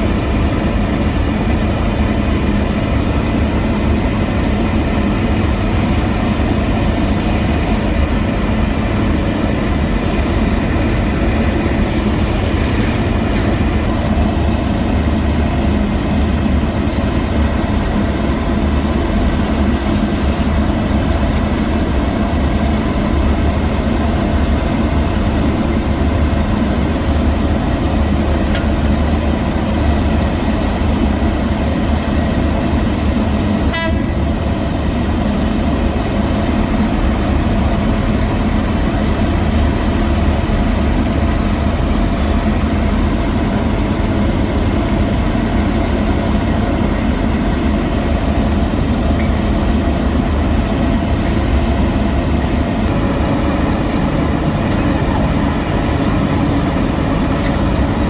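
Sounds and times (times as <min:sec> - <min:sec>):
heavy diesel machinery rumbling: 0:00.0 - 0:58.0.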